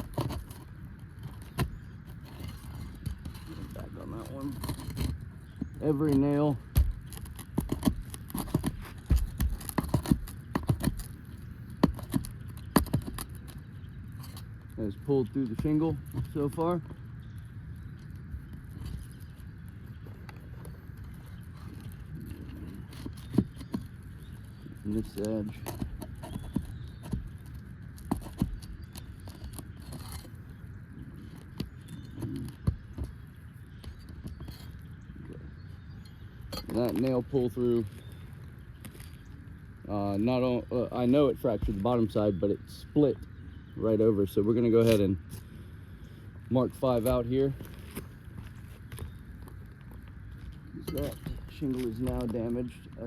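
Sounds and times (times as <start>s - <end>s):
hand tools scraping shingle roof: 0.0s - 17.0s, 18.4s - 34.8s, 43.9s - 53.0s.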